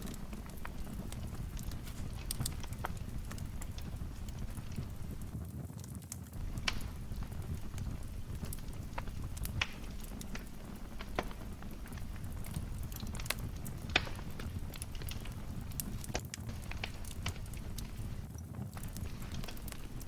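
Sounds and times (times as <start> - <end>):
fire crackling and popping: 0.0 - 20.0
flames rumbling in fireplace: 0.0 - 20.0.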